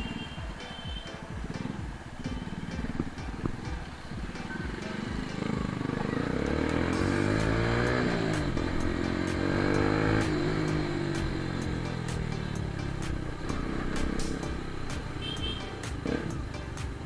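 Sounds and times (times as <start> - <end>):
motorcycle engine accelerating: 0.9 - 17.0.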